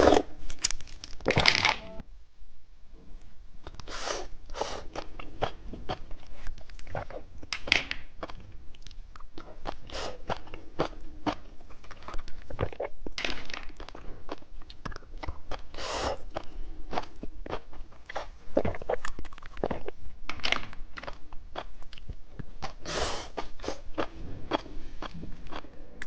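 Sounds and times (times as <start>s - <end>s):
candy crunching: 0.0s - 1.8s, 4.9s - 25.7s.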